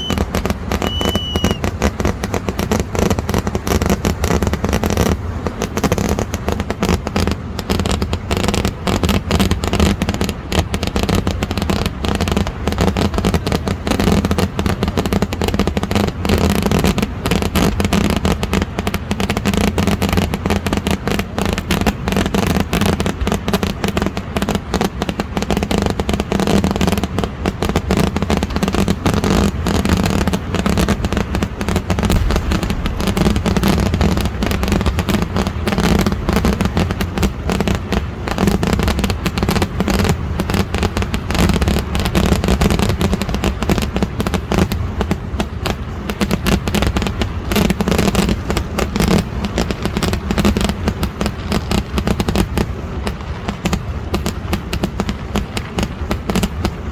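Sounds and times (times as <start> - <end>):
firecrackers bursting: 0.0 - 56.9.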